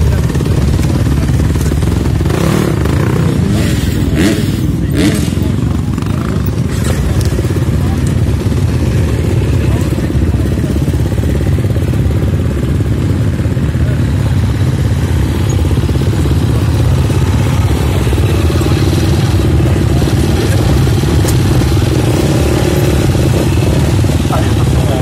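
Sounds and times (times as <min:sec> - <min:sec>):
motocross bikes engine drone: 0:00.0 - 0:25.0.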